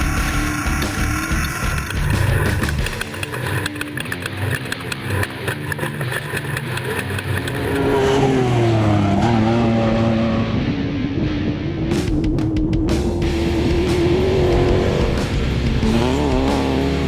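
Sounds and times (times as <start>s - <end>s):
race vehicle engine running hard: 0.0s - 17.0s.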